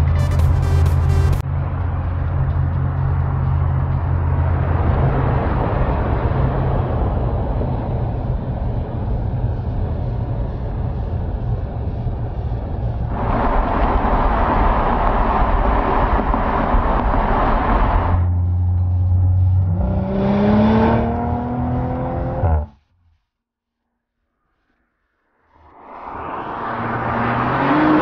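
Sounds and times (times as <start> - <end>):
road and wind noise: 0.0 - 22.8, 25.4 - 28.0
car engine drone: 0.0 - 23.1, 25.4 - 28.0.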